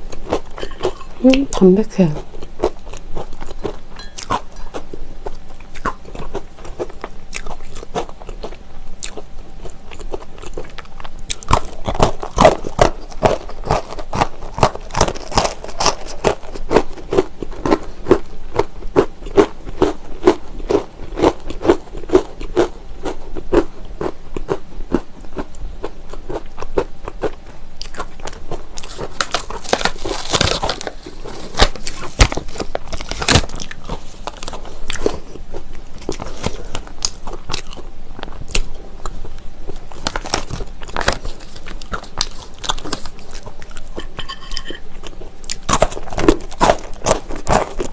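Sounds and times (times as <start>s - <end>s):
crunching and chewing pretzels: 0.0s - 47.9s.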